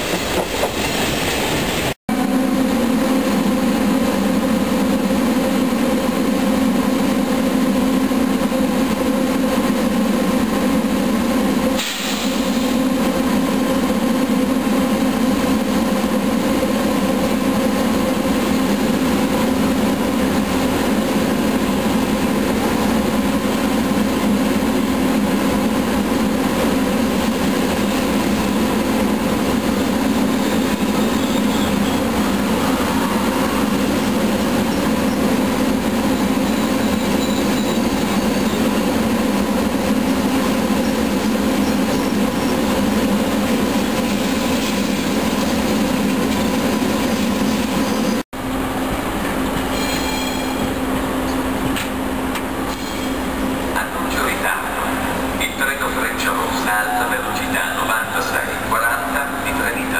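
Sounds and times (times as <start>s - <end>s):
electric train humming: 0.0s - 59.9s.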